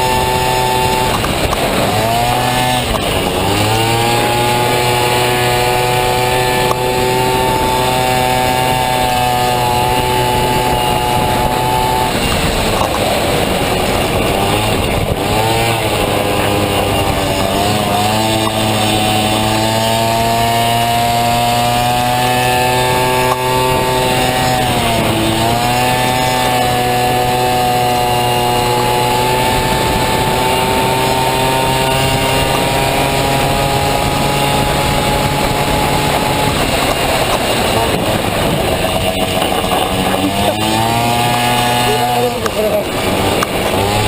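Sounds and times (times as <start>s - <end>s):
scooter engine revving: 0.0s - 44.0s.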